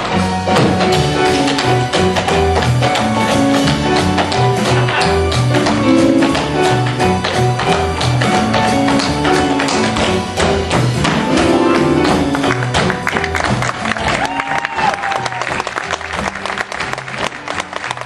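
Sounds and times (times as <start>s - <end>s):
instrumental show tune: 0.0s - 18.0s
tap-dance steps clattering: 0.0s - 18.0s.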